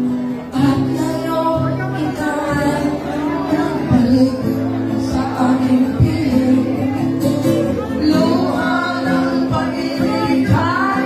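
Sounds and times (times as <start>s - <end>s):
acoustic guitar strumming: 0.0s - 11.0s
woman singing: 0.4s - 11.0s.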